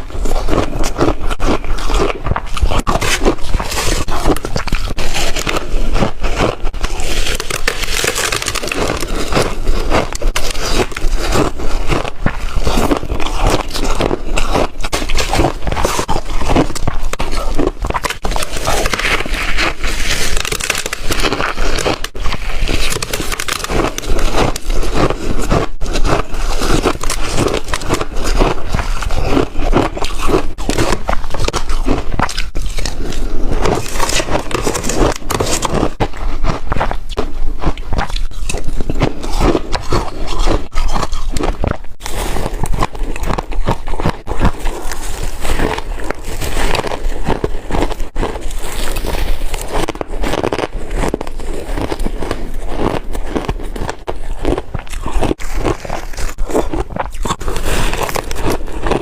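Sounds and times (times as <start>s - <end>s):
ice crunching between teeth: 0.0s - 59.0s.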